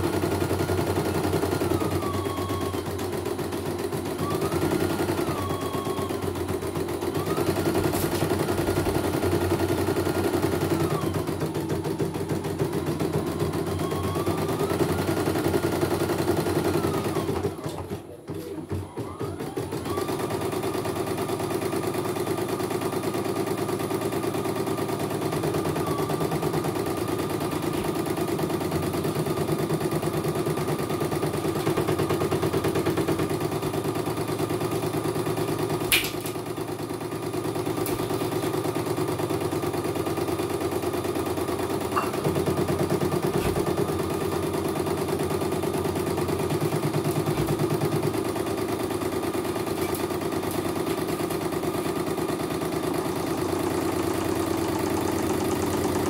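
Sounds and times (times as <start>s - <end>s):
embroidery machine stitching: 0.0s - 56.0s.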